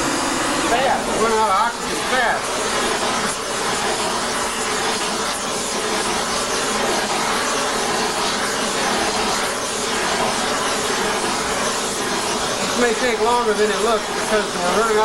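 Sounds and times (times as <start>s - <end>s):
gas torch hissing: 0.0s - 15.0s.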